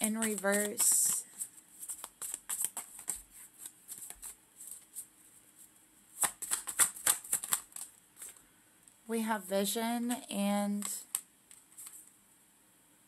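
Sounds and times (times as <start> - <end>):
cards being shuffled: 0.0 - 8.4, 10.0 - 12.1.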